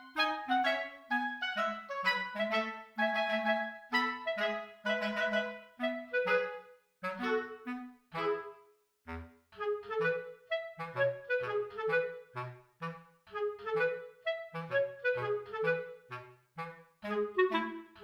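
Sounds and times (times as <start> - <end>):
bouncy woodwind melody: 0.0 - 18.0.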